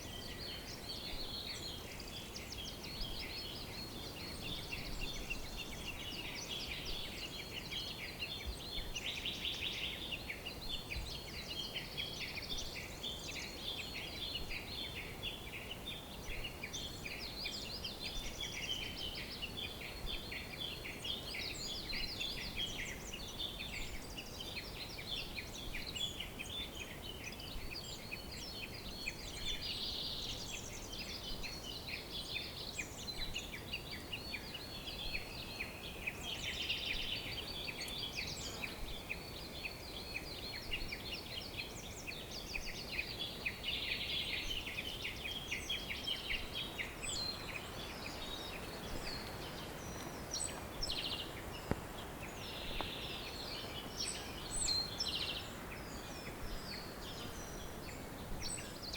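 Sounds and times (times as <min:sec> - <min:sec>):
small birds chirping and trilling: 0:00.0 - 0:58.9
steady background hiss: 0:00.0 - 0:58.9.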